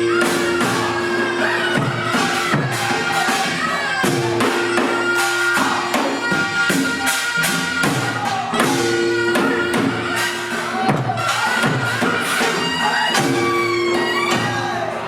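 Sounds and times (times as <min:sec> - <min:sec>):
percussion strikes: 0:00.0 - 0:15.0
reedy wind instrument melody: 0:00.0 - 0:15.0.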